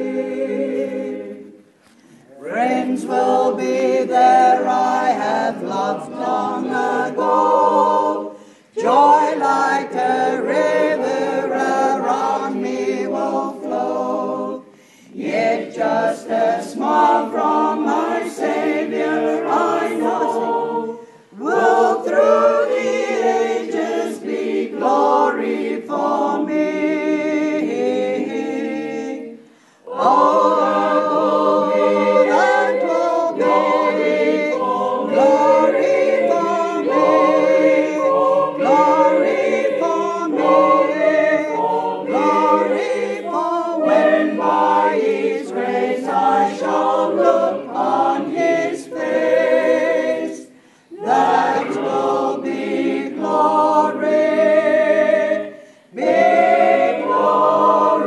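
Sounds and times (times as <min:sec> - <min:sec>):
group singing unaccompanied: 0:00.0 - 0:58.0.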